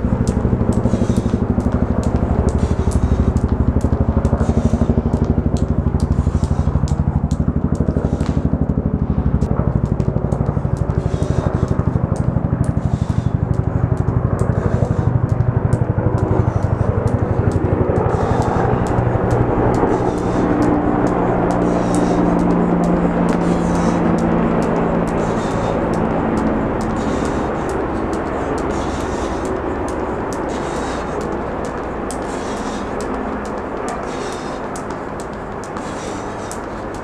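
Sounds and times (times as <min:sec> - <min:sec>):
jump rope slapping pavement: 0:00.0 - 0:37.0
low throbbing drone: 0:00.0 - 0:37.0.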